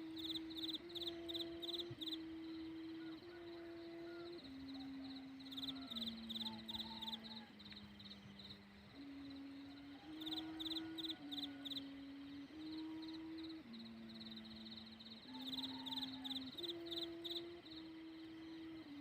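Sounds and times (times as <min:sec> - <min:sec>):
kite hummer droning: 0:00.0 - 0:19.0.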